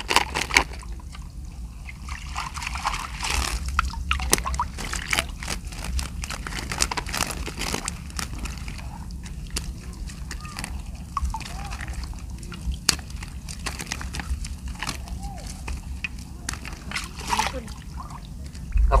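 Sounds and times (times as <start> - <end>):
shallow water splashing: 0.0 - 19.0.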